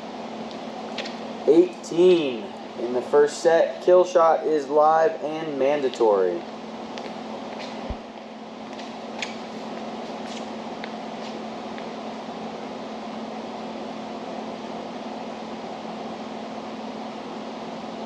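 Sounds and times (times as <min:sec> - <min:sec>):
ventilation hum: 0:00.0 - 0:18.0.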